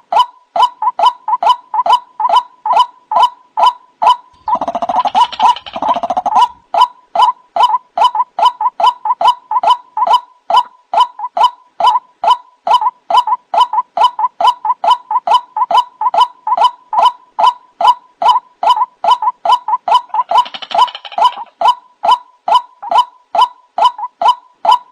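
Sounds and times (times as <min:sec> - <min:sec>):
waterhen calling: 0:00.0 - 0:24.9.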